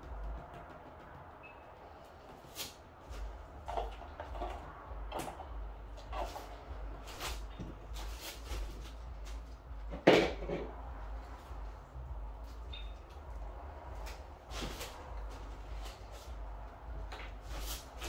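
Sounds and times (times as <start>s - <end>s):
objects knocking and clunking: 0.0s - 18.0s.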